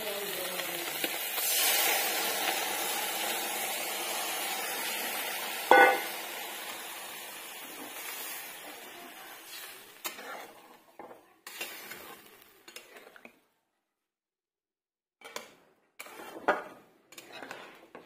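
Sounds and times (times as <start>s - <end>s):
curry sizzling in a wok: 0.0s - 13.3s, 16.0s - 18.0s.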